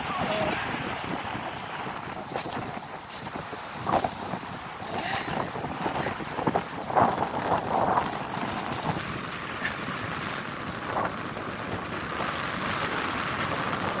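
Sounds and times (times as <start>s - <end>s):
surf breaking on beach: 0.0s - 14.0s
wind on microphone: 0.0s - 14.0s.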